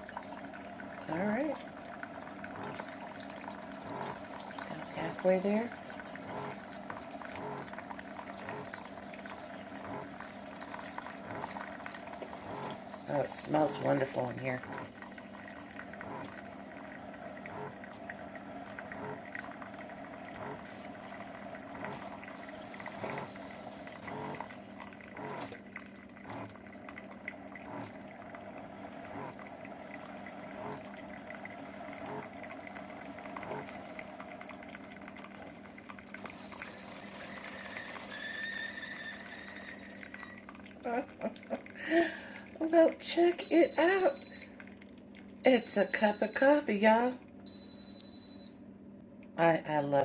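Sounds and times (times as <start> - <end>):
coffee running into mug: 0.0 - 47.5
coffee maker pump hum: 0.0 - 50.0.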